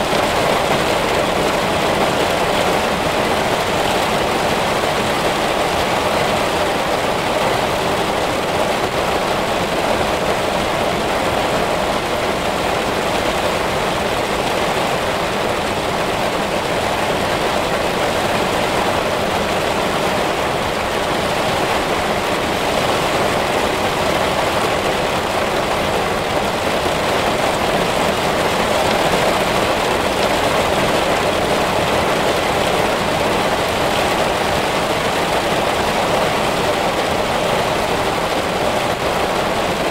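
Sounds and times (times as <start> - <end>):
heavy rain pouring through trees: 0.0 - 39.9.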